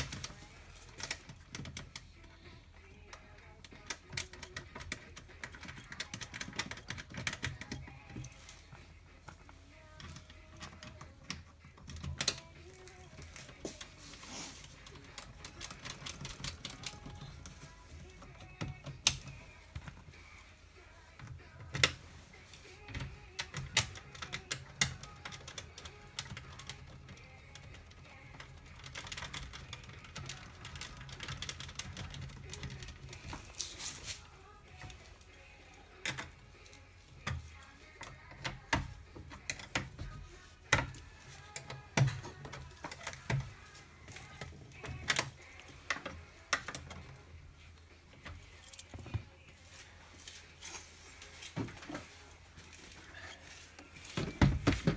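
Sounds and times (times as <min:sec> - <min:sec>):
hand tools clicking and tapping: 0:00.0 - 0:20.6, 0:21.2 - 0:54.9.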